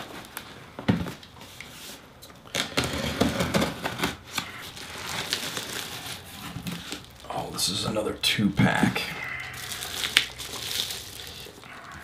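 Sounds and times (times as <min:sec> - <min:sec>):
paper and plastic rustling: 0:00.0 - 0:08.1, 0:08.7 - 0:12.0.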